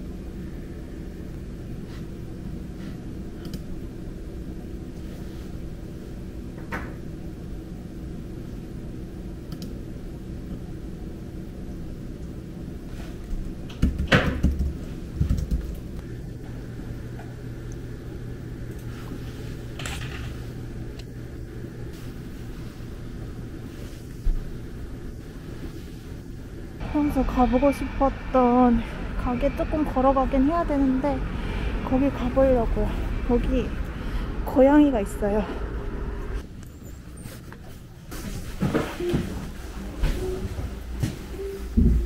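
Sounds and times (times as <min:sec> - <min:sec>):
office room hum: 0:00.0 - 0:42.0.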